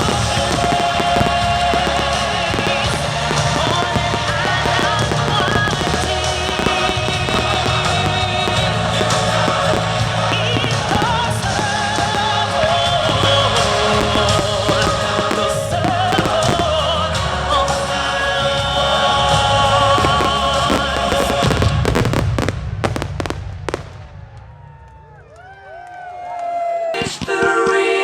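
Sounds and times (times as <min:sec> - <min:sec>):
music with long sung notes: 0:00.0 - 0:24.0
fireworks banging: 0:00.0 - 0:25.4.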